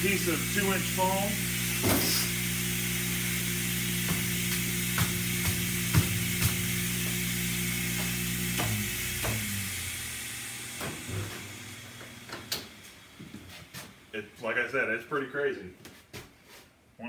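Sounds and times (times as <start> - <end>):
vacuum motors humming: 0.0 - 14.4.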